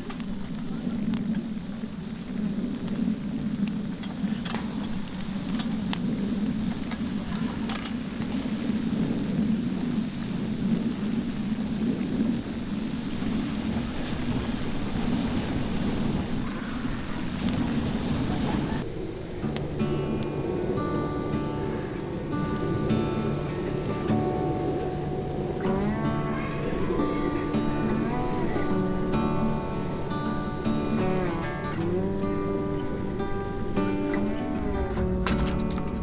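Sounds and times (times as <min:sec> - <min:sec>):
campfire burning: 0:00.0 - 0:36.0
fire crackles: 0:00.0 - 0:36.0.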